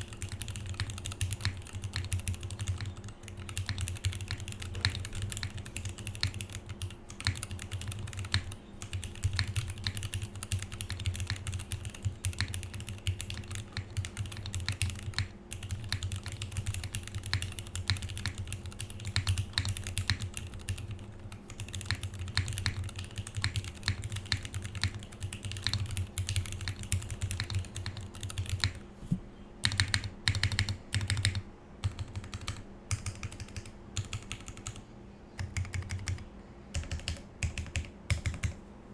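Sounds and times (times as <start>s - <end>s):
fast mechanical keyboard typing: 0.0s - 28.8s, 29.6s - 34.8s, 35.4s - 38.6s.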